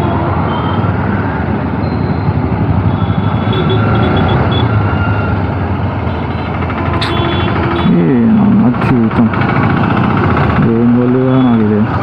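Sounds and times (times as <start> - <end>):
traffic vehicles: 0.0 - 12.0
motorcycle engine running: 2.1 - 12.0.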